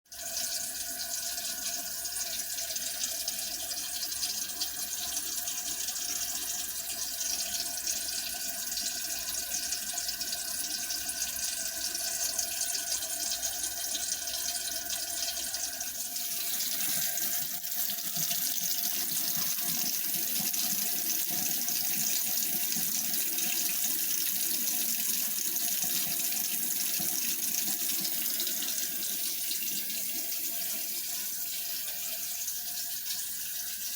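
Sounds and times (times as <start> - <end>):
water running from faucet into sink: 0.1 - 33.9.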